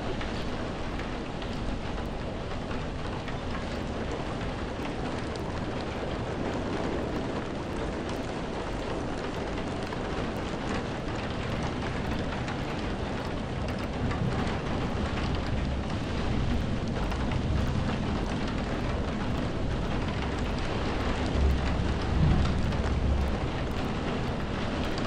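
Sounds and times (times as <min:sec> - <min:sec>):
steady rain pouring: 0:00.0 - 0:25.0.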